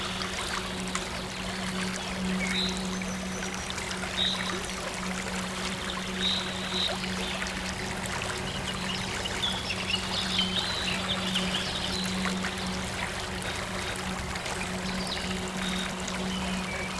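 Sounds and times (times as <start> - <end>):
stream water trickling: 0.0 - 16.9.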